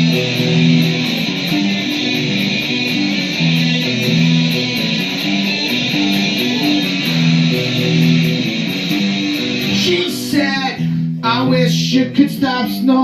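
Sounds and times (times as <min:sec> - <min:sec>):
low guitar notes: 0:00.0 - 0:13.0
strummed guitar: 0:00.0 - 0:13.0.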